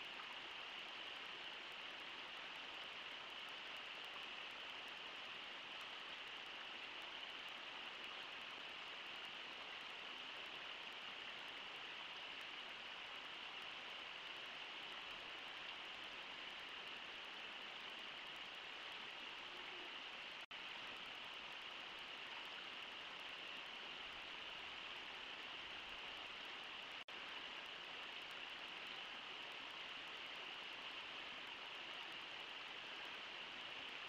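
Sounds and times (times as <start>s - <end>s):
river flowing over riffles: 0.0s - 34.0s.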